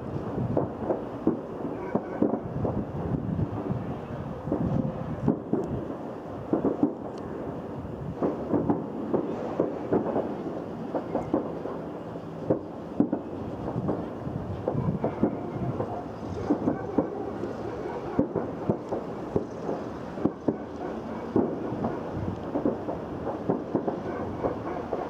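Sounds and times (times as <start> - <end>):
continuous rumble: 0.0 - 25.0
fireworks bangs and pops: 0.0 - 25.0.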